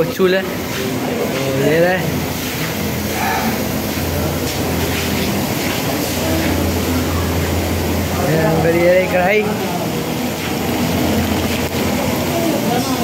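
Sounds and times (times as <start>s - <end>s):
faint voices: 0.0s - 13.0s
gas burners roaring: 0.0s - 13.0s.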